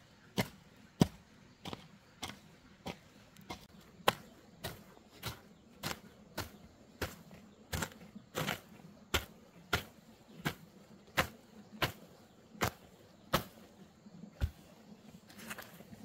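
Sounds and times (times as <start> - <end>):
hoe striking the ground: 0.3 - 13.7.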